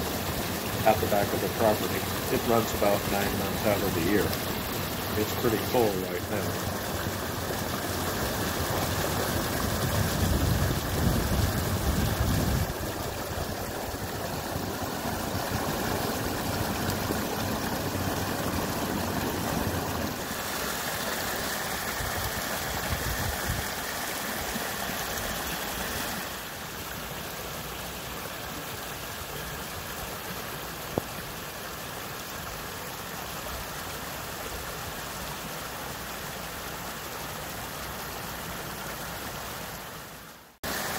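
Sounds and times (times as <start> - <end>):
stream pouring over a drop: 0.0 - 40.9.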